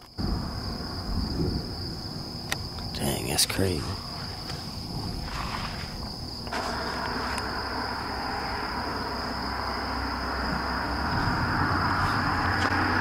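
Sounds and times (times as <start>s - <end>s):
night insects trilling: 0.0s - 13.0s
rushing rumbling noise: 0.0s - 13.0s.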